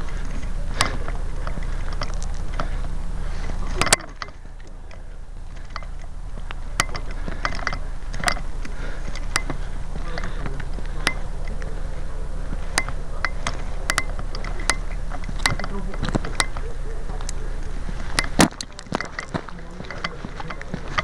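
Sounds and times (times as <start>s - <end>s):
low wind rumble: 0.0s - 21.0s
microphone handling noise: 0.0s - 21.0s.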